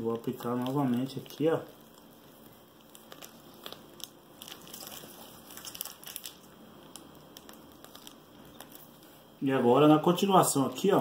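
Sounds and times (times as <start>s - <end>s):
plastic piping bag crinkling: 0.0s - 11.0s.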